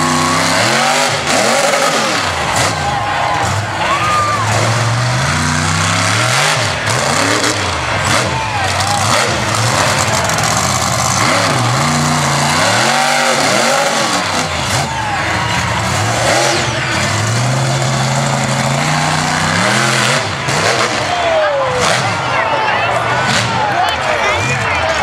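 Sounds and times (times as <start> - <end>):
truck engine revving hard: 0.0 - 25.0.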